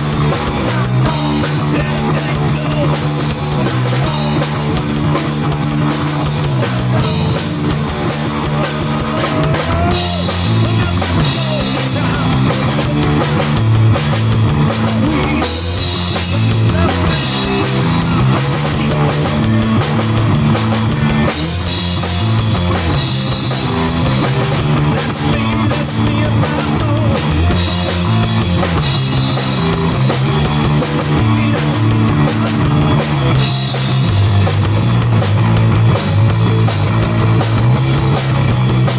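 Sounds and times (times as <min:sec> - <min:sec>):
drum kit: 0:00.0 - 0:38.9
electric guitar: 0:00.0 - 0:38.9
live rock band playing: 0:00.0 - 0:38.9.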